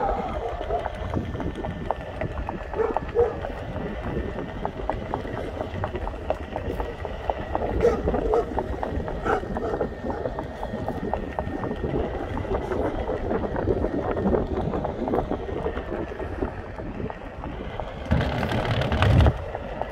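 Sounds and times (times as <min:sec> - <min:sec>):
wheels rumbling on concrete: 0:00.0 - 0:19.9
wind buffeting microphone: 0:00.0 - 0:19.9.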